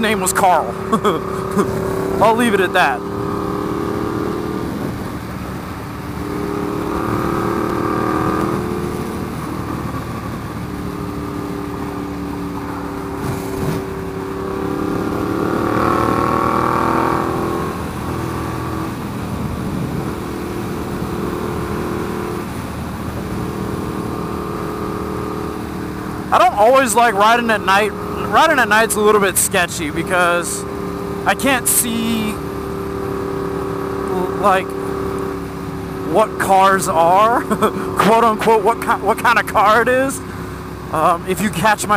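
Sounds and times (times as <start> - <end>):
motorcycle engine accelerating: 0.0 - 41.3.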